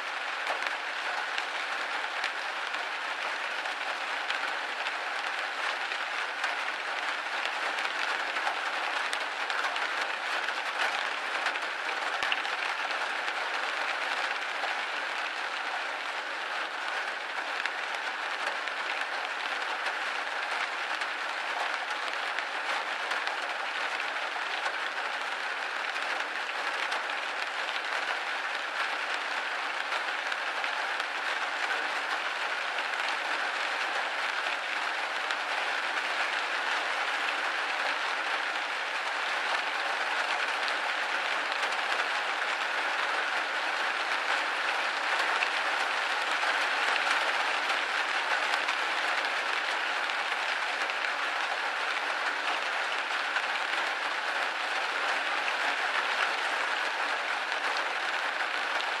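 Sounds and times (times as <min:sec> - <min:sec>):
rain pattering on glass: 0:00.0 - 0:59.0.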